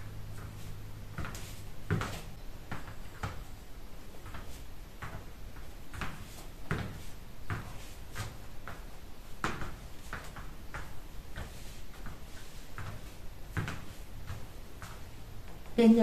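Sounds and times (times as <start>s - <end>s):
heeled footsteps on laminate floor: 0.0s - 3.5s, 4.2s - 16.0s.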